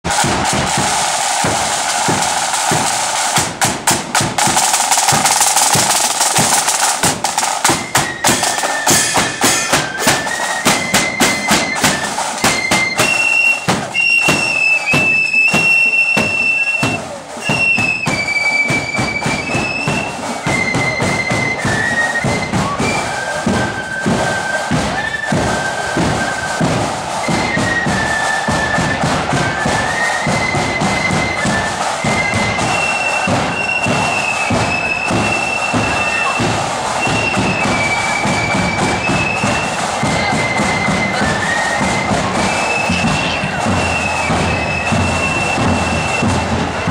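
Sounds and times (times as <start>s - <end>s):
side drums beating a march: 0.0s - 46.9s
flutes playing high melody: 0.1s - 46.9s.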